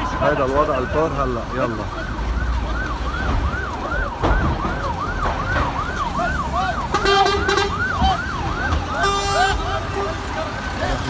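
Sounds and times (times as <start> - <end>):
fire engine siren yelp: 0.0 - 11.0.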